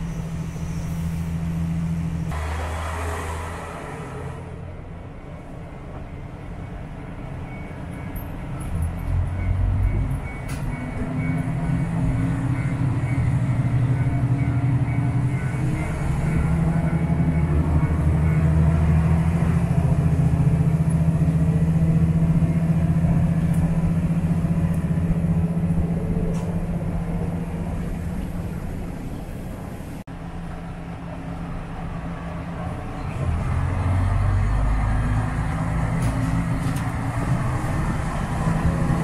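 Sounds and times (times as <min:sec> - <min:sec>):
deep loud engine hum: 0:00.0 - 0:05.8, 0:08.5 - 0:39.0
diesel railcar engine drone: 0:00.0 - 0:39.0.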